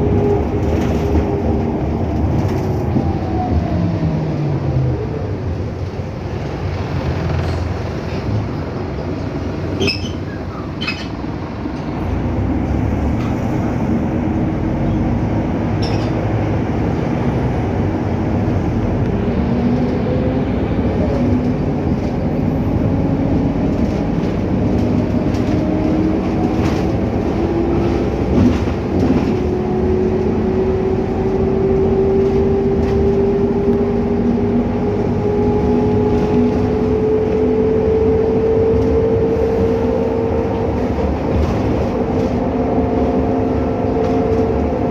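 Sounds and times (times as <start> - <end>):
bus engine and road rumble: 0.0 - 44.9.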